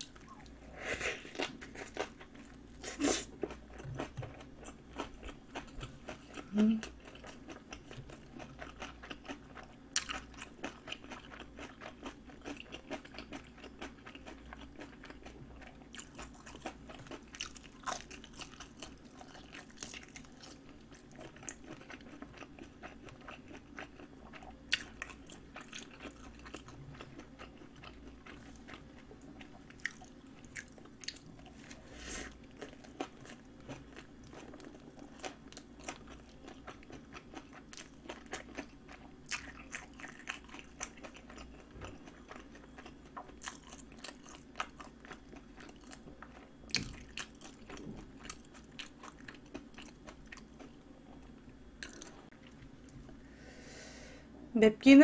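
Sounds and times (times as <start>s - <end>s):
person chewing crunchy food: 0.0s - 53.7s.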